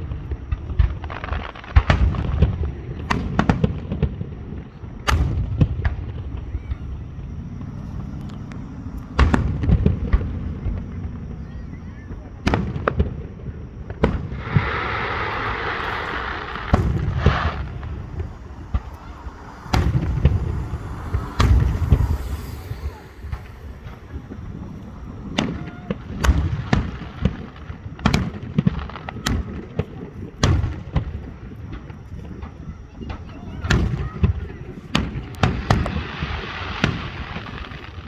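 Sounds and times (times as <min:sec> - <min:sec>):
fireworks booming: 0:00.0 - 0:38.0
fireworks hissing: 0:00.0 - 0:38.0.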